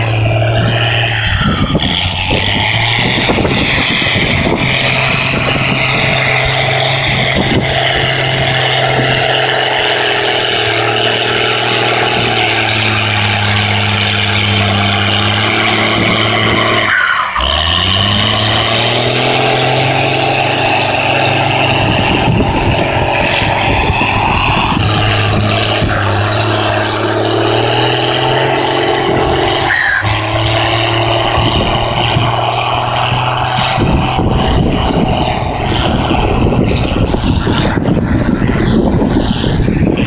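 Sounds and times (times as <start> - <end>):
diesel engine running hard: 0.0 - 40.0
high turbo whine: 0.0 - 40.0.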